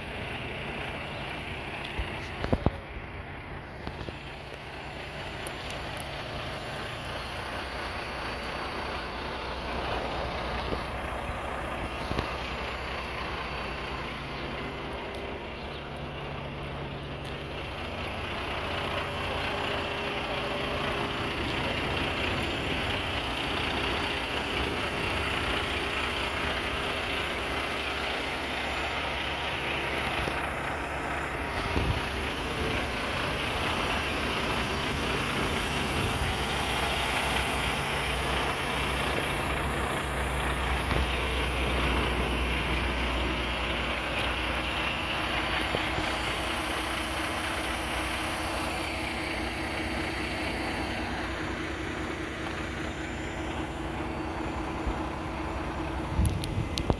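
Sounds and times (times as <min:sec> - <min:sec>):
garbage truck diesel engines: 0:00.0 - 0:56.9.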